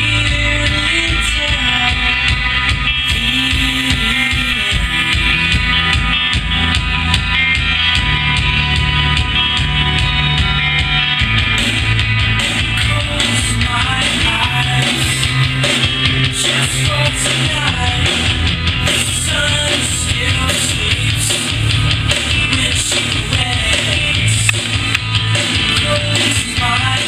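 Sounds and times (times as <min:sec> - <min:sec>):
rock music with drums and guitar: 0:00.0 - 0:27.0.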